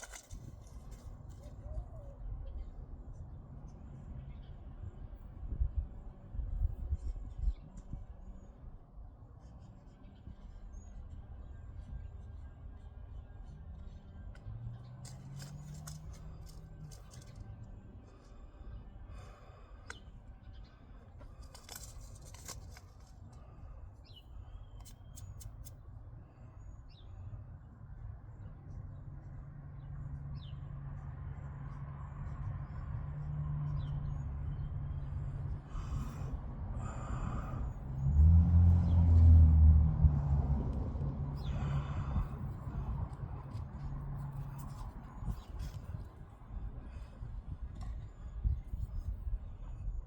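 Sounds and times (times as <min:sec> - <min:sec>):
low rumble with steady hum: 0:00.0 - 0:50.0.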